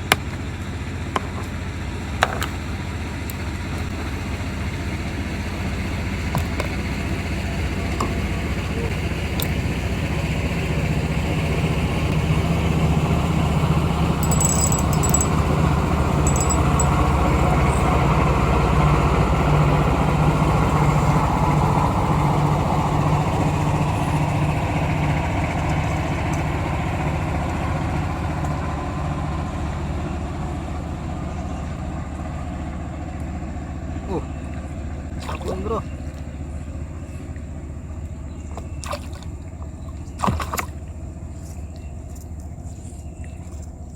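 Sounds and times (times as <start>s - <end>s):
small boat motor running: 0.0s - 43.9s.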